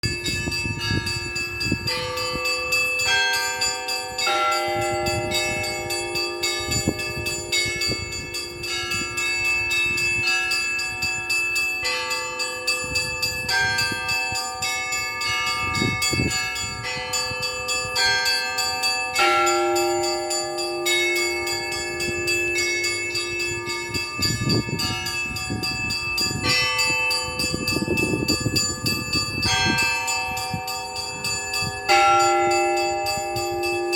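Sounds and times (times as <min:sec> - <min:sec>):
low church bells ringing: 0:00.0 - 0:33.9
small church bells: 0:00.0 - 0:33.9.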